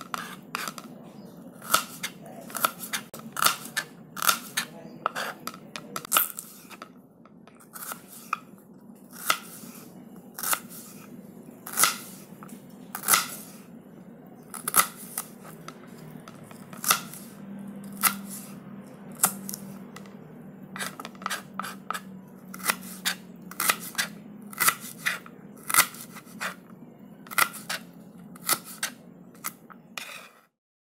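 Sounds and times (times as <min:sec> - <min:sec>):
knife slicing an onion: 0:00.0 - 0:06.9, 0:07.6 - 0:08.5, 0:09.1 - 0:13.7, 0:14.5 - 0:20.2, 0:20.8 - 0:30.5
faint low hum: 0:00.0 - 0:30.3.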